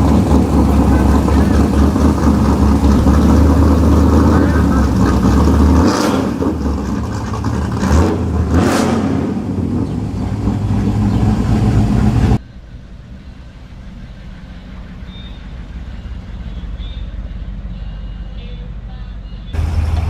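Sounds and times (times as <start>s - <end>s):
car engine running loudly: 0.0s - 20.0s
low rumble: 0.0s - 20.0s.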